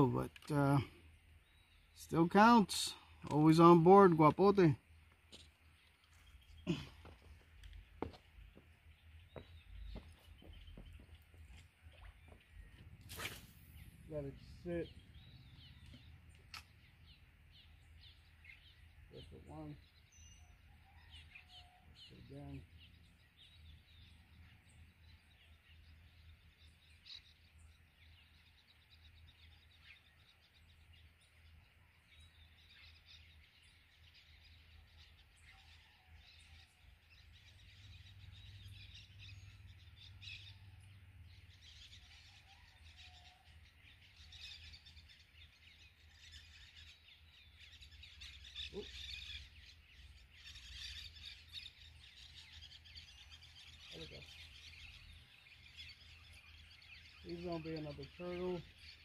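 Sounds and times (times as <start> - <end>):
faint bird chirps: 5.3 - 59.0.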